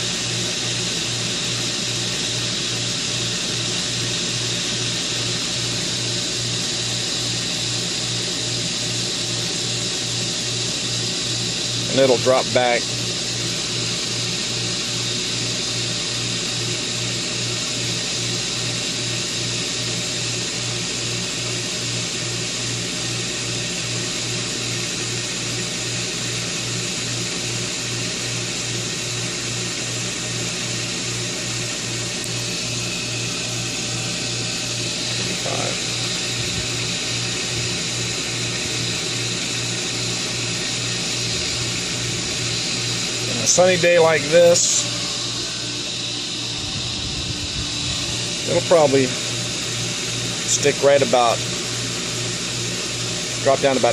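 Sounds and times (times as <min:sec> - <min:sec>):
pool pump motor humming: 0:00.0 - 0:53.9.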